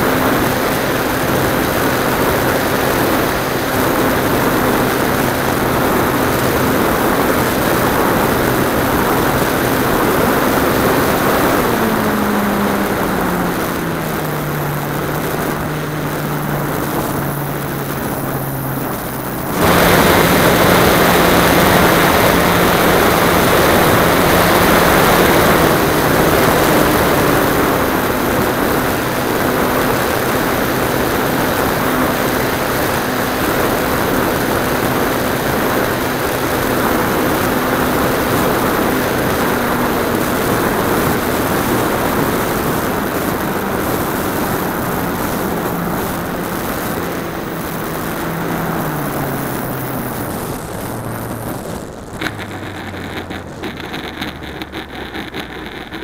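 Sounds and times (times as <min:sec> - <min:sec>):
wind rush: 0:00.0 - 0:54.9
model aeroplane motor and propeller: 0:00.0 - 0:56.0.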